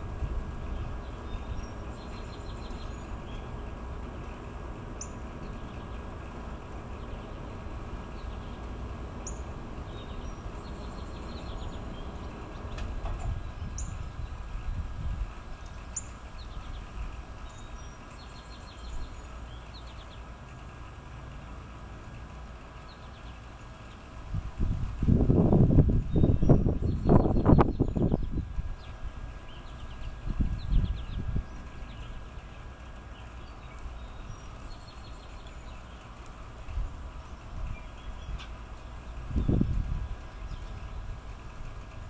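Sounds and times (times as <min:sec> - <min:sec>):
bird chirps and trills: 0:00.6 - 0:20.6, 0:26.0 - 0:42.0.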